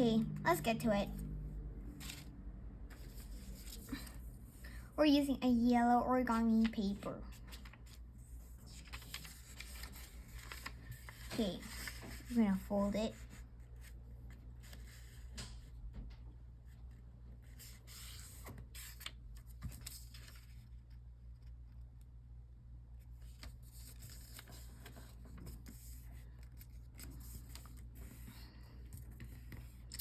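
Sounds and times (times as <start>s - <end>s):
paper rustling and folding: 1.9s - 4.6s, 6.2s - 22.0s, 23.0s - 30.0s.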